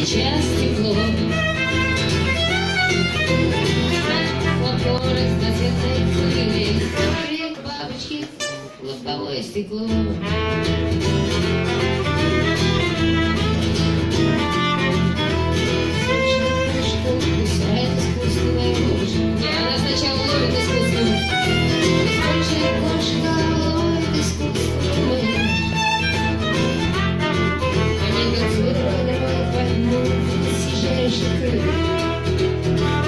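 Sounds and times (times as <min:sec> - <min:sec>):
violin melody: 0:00.0 - 0:07.4, 0:10.2 - 0:33.0
strummed acoustic guitar: 0:00.0 - 0:09.1, 0:09.9 - 0:33.0.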